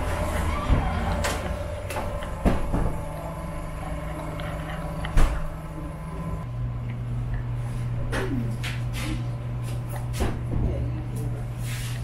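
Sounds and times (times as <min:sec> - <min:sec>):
refrigerated display cases humming: 0:00.0 - 0:12.0.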